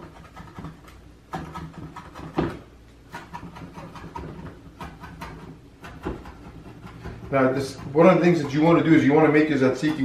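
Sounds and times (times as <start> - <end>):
knife chopping on wooden board: 0.0 - 10.0.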